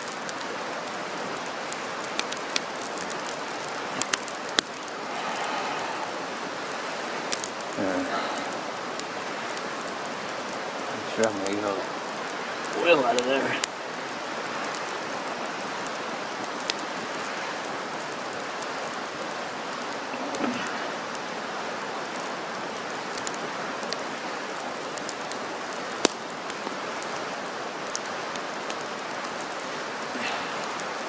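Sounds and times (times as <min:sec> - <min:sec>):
campfire hissing and crackling: 0:00.0 - 0:31.0.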